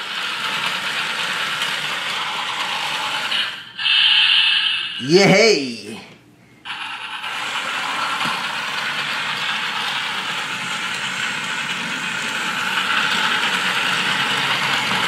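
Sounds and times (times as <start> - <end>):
toy train motor whirring: 0.0 - 5.0, 6.7 - 15.0.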